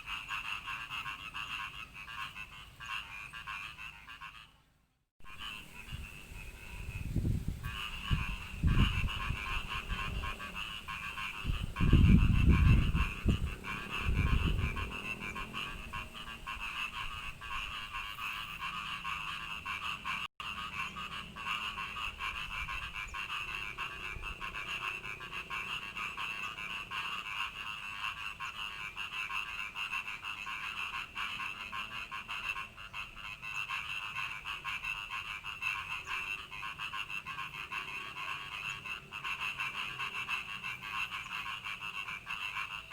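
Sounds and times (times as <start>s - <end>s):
frogs trilling: 5.2s - 42.9s.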